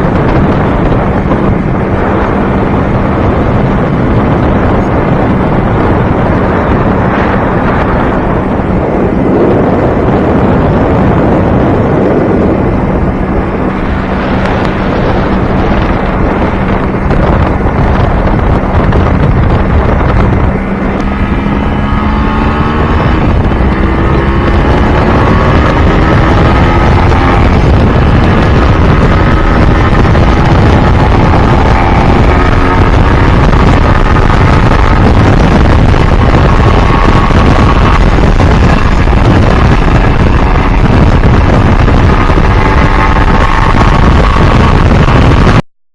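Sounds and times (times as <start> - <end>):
motorcycle engine accelerating: 0.0 - 45.6
wind noise on microphone: 0.0 - 45.7.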